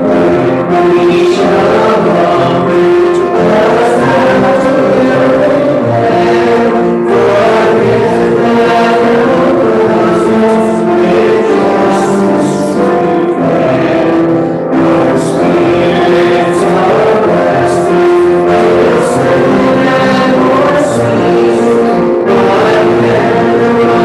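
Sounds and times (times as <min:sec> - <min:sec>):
group singing a hymn: 0:00.0 - 0:24.0.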